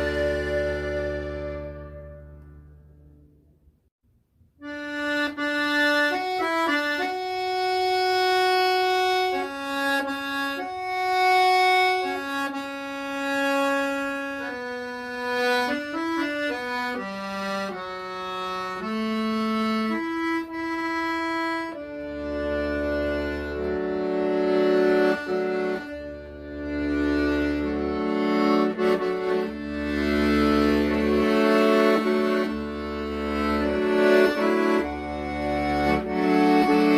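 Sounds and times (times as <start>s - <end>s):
accordion playing slow melody: 0.0s - 3.0s, 4.6s - 36.9s.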